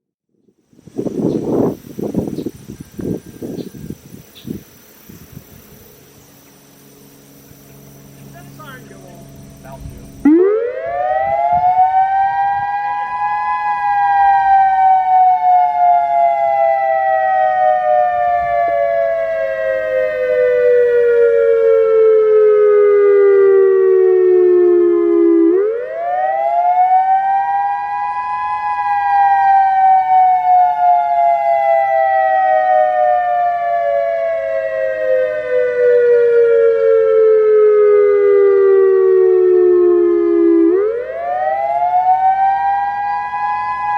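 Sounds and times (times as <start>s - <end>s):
outdoor warning siren wailing: 0.3s - 43.9s.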